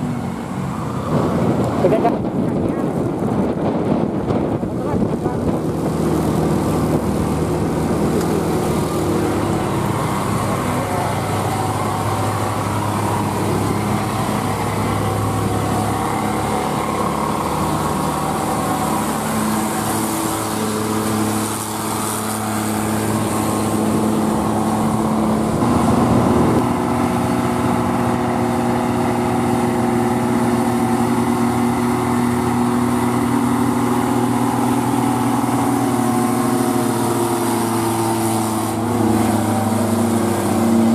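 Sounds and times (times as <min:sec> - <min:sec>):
tow truck diesel engine labouring: 0:00.0 - 0:40.9
uphill traffic engine and road noise: 0:00.0 - 0:40.9.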